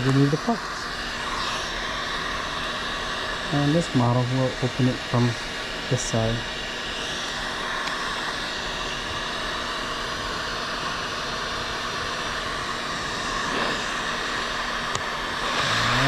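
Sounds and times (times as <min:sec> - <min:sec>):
hot-air tool blowing hiss: 0:00.0 - 0:16.0.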